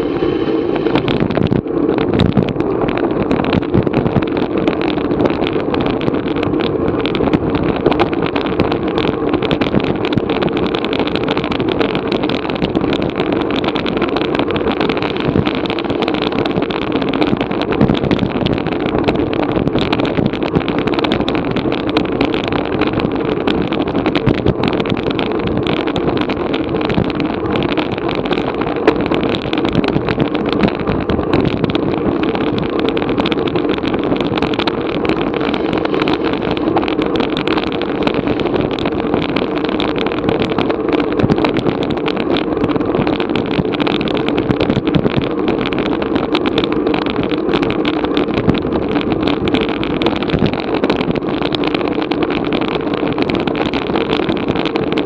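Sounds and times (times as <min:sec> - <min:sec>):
bicycle road noise: 0:00.0 - 0:55.0
wind rush: 0:00.0 - 0:55.0.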